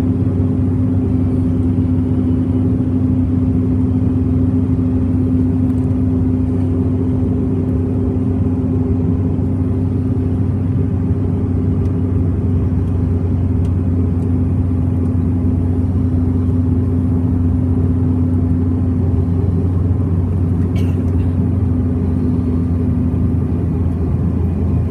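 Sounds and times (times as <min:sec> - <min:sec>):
jet cabin drone: 0:00.0 - 0:24.9
steady hum tone: 0:00.0 - 0:24.9.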